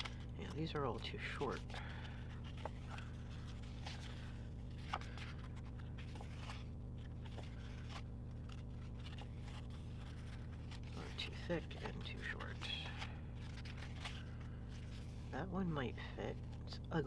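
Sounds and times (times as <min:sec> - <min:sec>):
paper pages rustling: 0:00.0 - 0:17.0
steady low hum: 0:00.0 - 0:17.0.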